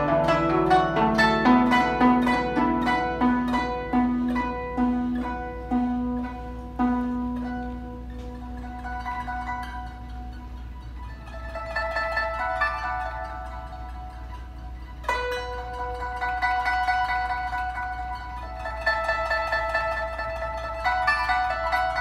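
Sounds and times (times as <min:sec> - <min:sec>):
plucked zither notes: 0:00.0 - 0:22.0.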